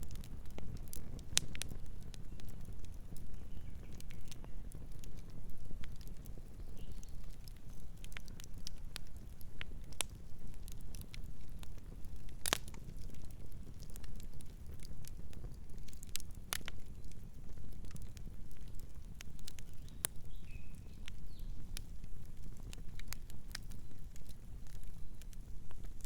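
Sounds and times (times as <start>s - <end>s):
campfire low rumble: 0.0s - 26.0s
fire crackles and pops: 0.0s - 26.0s.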